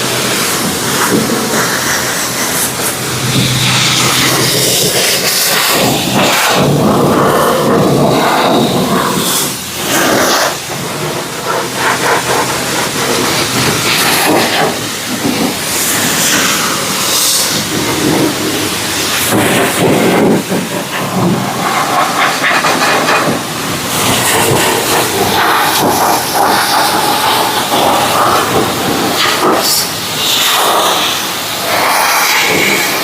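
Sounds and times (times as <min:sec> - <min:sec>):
pressure washer spraying water: 0:00.0 - 0:33.0.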